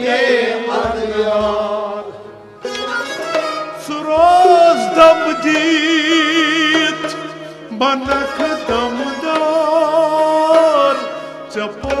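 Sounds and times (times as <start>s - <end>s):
folk ensemble playing: 0.0s - 12.0s.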